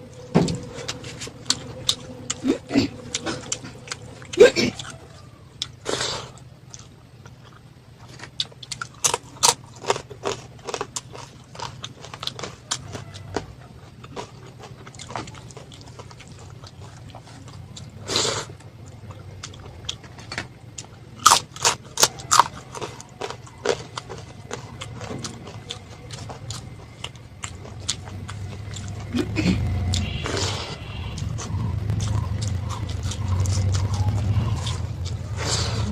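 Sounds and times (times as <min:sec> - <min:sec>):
faint low hum: 0:00.0 - 0:35.9
person chewing food: 0:00.0 - 0:35.9.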